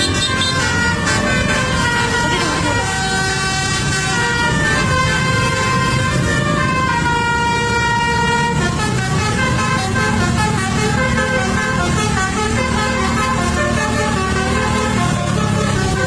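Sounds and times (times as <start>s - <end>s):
bus engine rumble: 0.0s - 16.0s
musical bus horn tune: 0.0s - 16.0s.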